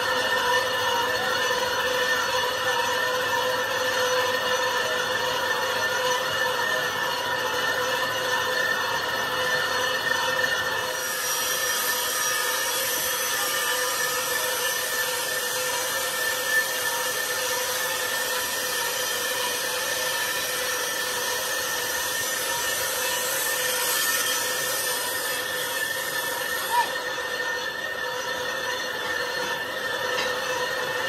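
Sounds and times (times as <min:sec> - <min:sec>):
metalworking machine whine: 0:00.0 - 0:31.0.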